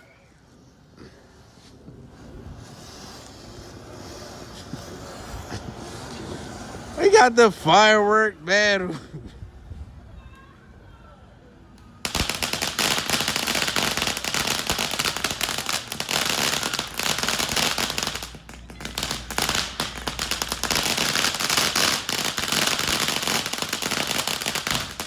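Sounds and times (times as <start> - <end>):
firecrackers crackling: 0.3 - 8.3, 12.0 - 25.0.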